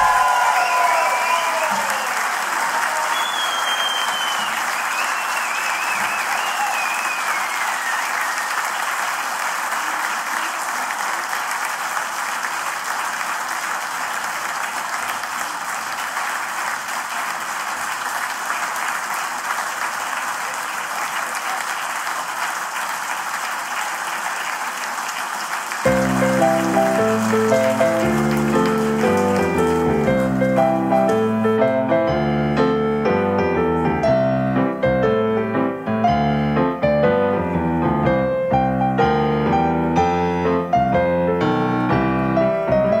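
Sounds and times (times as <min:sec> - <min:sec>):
audience applauding: 0:00.0 - 0:34.8.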